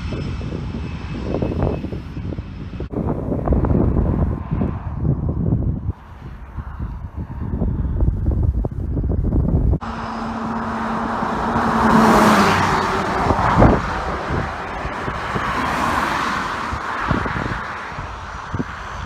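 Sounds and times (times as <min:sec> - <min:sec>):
turboprop plane passing: 0:00.0 - 0:19.0
wind rumbling on microphone: 0:00.0 - 0:19.0.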